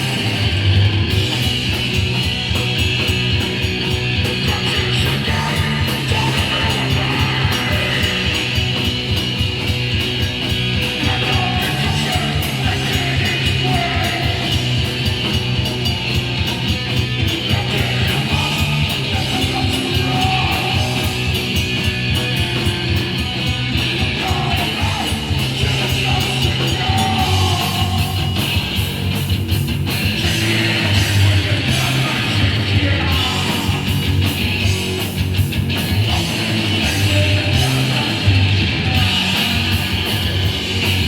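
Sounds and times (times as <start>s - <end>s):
bass guitar: 0.0s - 41.0s
distorted electric guitar: 0.0s - 41.0s
fast drums: 0.0s - 41.0s.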